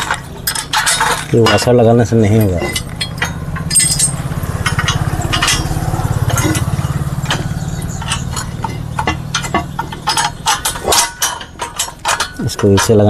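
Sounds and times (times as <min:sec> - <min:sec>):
metal parts clinking: 0:00.0 - 0:13.0
small engine idling: 0:00.0 - 0:13.0.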